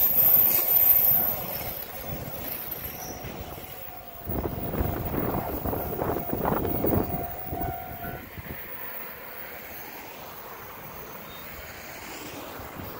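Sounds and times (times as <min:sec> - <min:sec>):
crossing warning bell ringing: 0:00.0 - 0:11.4
train wheels clattering on rails: 0:00.0 - 0:12.9.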